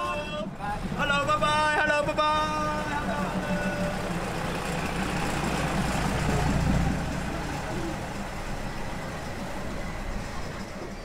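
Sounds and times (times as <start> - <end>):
diesel railcar rumbling past: 0.0 - 11.0.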